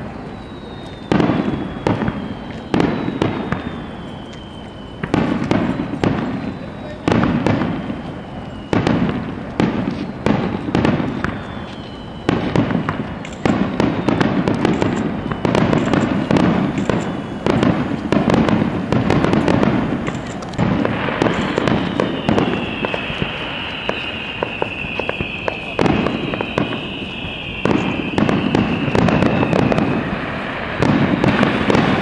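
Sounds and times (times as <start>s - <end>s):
fireworks bursting: 0.0s - 32.0s
high whistling tone: 0.0s - 32.0s.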